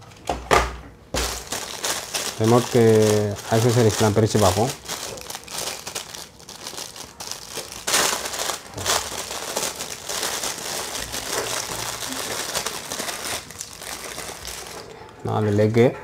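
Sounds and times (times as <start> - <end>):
plastic bag crinkling: 1.1 - 15.0.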